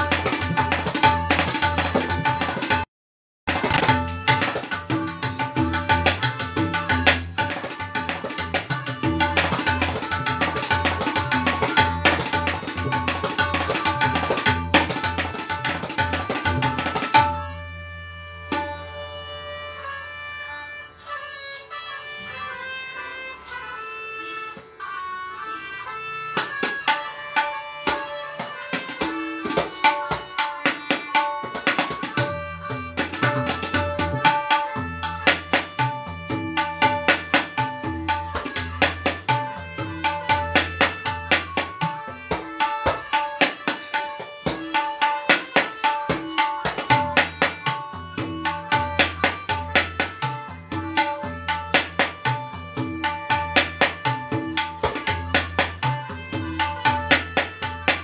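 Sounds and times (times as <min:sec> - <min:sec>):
fast tabla strokes: 0:00.0 - 0:02.9, 0:03.5 - 0:17.6, 0:26.4 - 0:58.0.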